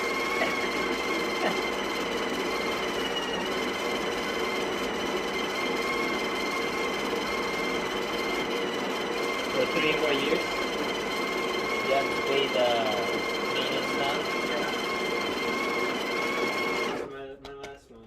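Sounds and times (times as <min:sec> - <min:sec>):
coffee grinder motor whine: 0:00.0 - 0:17.1.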